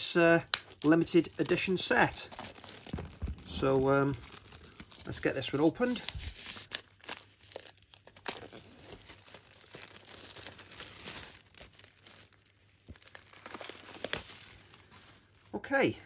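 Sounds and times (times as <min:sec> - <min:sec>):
plastic wrapping tearing: 0:00.0 - 0:15.4.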